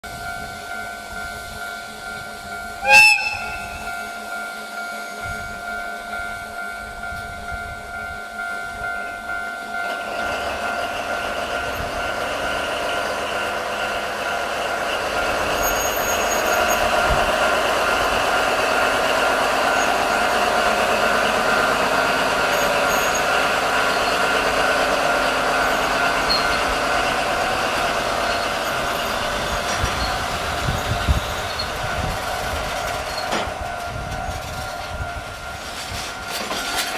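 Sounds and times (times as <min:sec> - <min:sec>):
diesel locomotive rumbling: 0:00.0 - 0:36.9.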